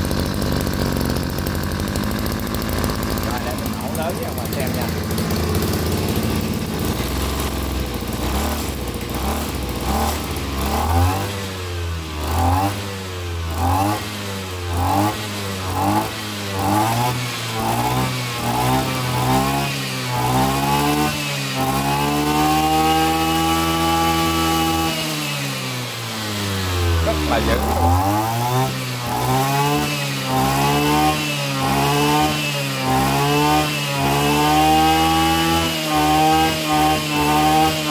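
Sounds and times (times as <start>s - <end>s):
brush cutter engine revving: 0.0s - 37.9s.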